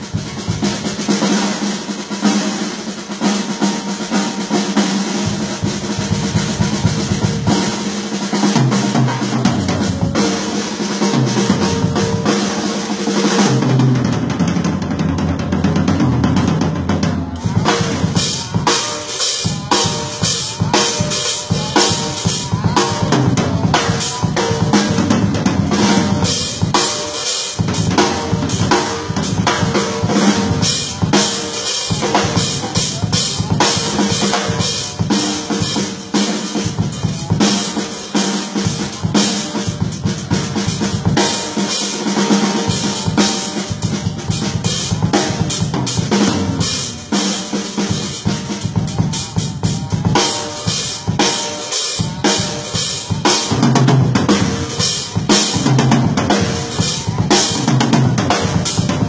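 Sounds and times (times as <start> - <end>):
drum kit groove: 0.0 - 59.0.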